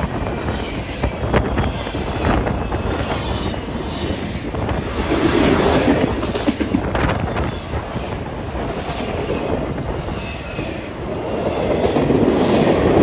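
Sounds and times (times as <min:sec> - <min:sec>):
train wheels rumbling on rails: 0:00.0 - 0:13.0
wheels clicking over rail joints: 0:00.0 - 0:13.0
wind buffeting microphone: 0:00.0 - 0:13.0.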